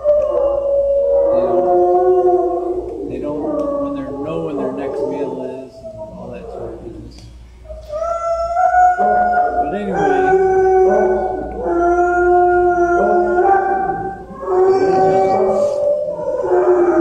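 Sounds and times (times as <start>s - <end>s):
dogs howling: 0.0s - 17.0s.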